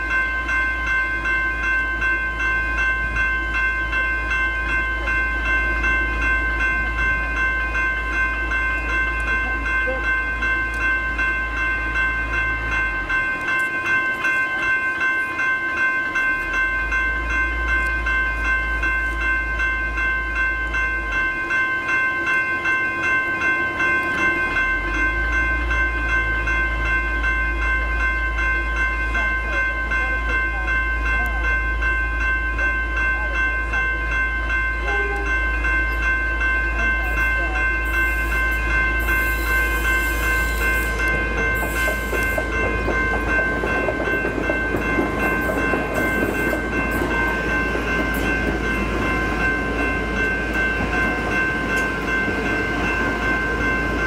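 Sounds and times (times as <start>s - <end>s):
level crossing bells ringing: 0.0s - 54.0s.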